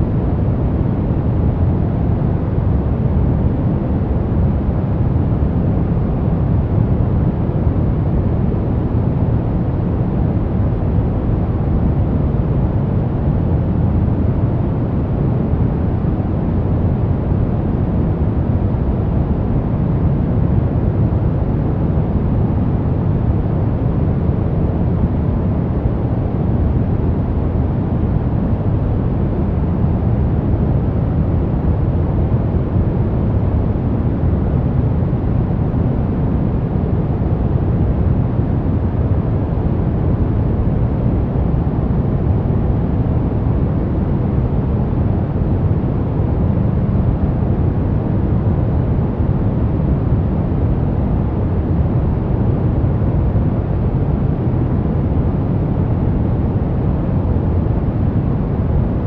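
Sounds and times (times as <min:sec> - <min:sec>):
deep steady noise rush: 0:00.0 - 0:59.0.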